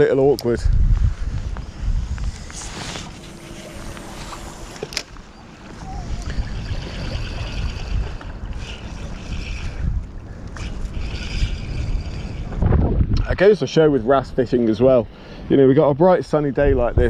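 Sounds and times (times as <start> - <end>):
gusty wind on microphone: 0.0 - 14.4, 16.5 - 17.0.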